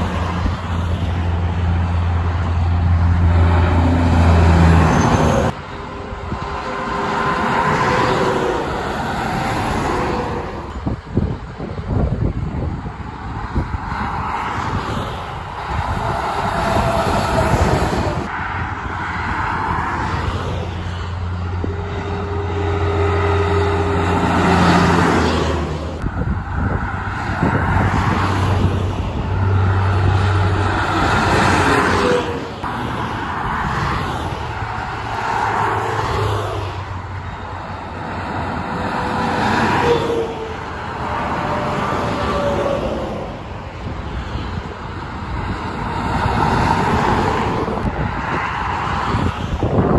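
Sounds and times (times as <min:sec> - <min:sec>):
truck engine drone: 0:00.0 - 0:11.4, 0:15.3 - 0:48.1
highway traffic passing: 0:00.0 - 0:49.9.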